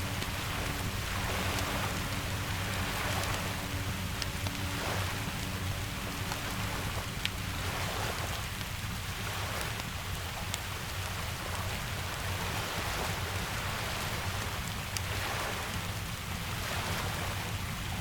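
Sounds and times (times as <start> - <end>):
wood fire crackling: 0.0 - 16.7
steady rain falling: 0.0 - 18.0.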